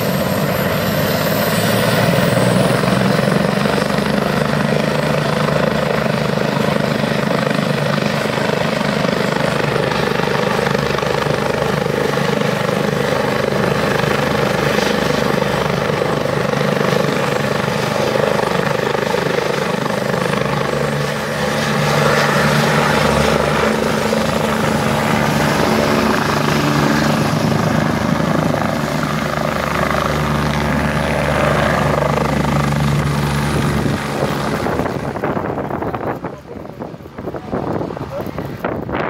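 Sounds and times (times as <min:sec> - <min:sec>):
helicopter rotor beat: 0:00.0 - 0:39.0
helicopter turbine noise: 0:00.0 - 0:39.0.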